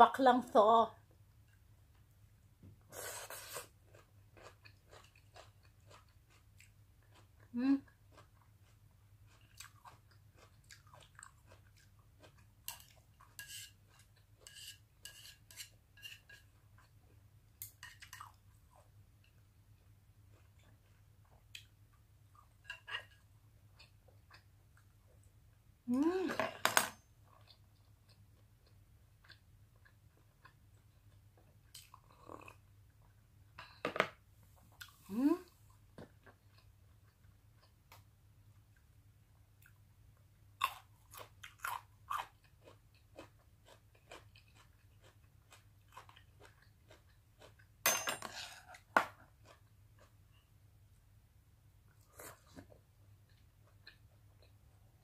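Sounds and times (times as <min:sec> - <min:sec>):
faint chewing sounds: 0:01.1 - 0:26.2, 0:27.0 - 0:33.8, 0:34.4 - 0:51.1, 0:51.8 - 0:55.0.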